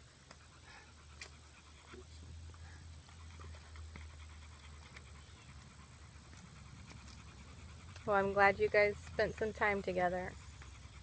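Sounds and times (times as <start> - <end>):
faint panting breaths: 0.0 - 11.0.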